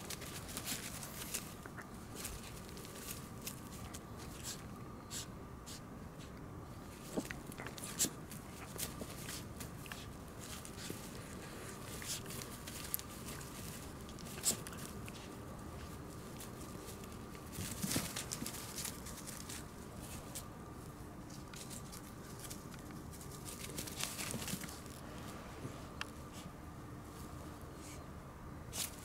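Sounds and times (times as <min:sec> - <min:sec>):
dog paws rustling on leaves: 0:00.0 - 0:05.2, 0:06.9 - 0:25.4.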